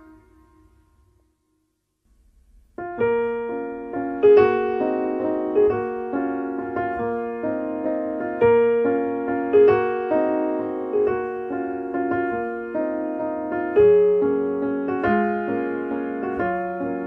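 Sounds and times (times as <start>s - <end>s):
solo piano music: 0.0s - 1.6s, 2.5s - 17.0s.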